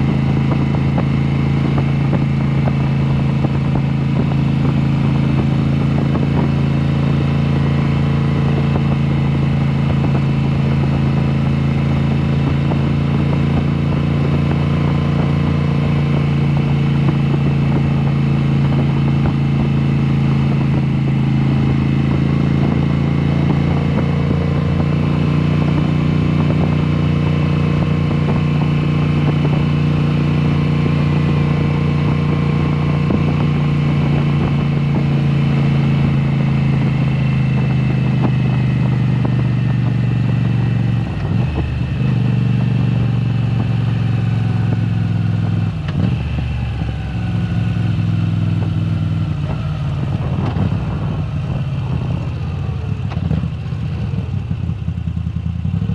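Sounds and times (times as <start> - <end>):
motorcycle open exhaust note: 0.0 - 55.9.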